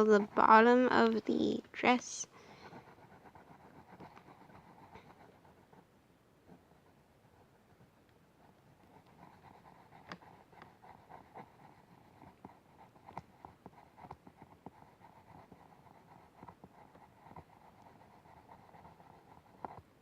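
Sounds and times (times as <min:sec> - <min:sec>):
pencil scratching on paper: 0:00.0 - 0:20.0.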